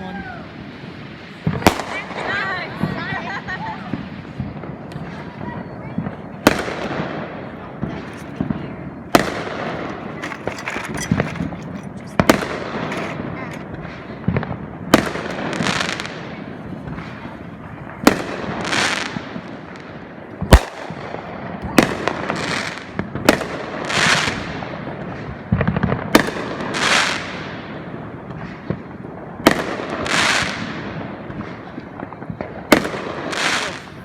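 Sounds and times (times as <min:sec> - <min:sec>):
fireworks bangs with crackling hiss: 0:00.0 - 0:34.0.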